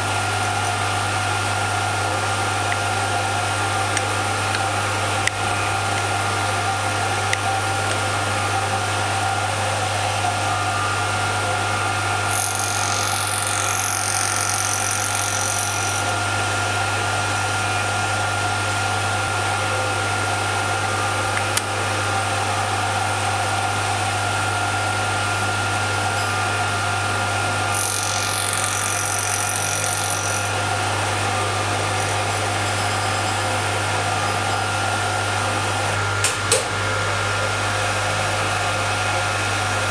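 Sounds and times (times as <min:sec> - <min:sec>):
cutter whining into brass: 0:00.0 - 0:36.1
lathe spindle motor humming: 0:00.0 - 0:36.2.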